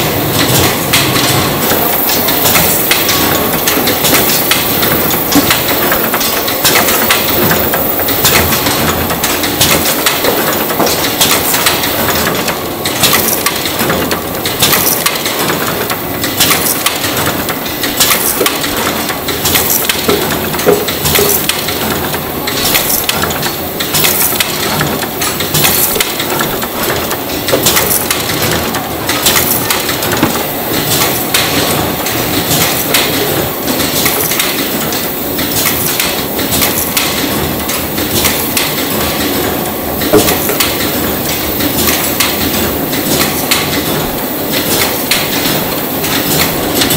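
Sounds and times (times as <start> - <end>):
conveyor clicks and clattering knocks: 0.0 - 46.9.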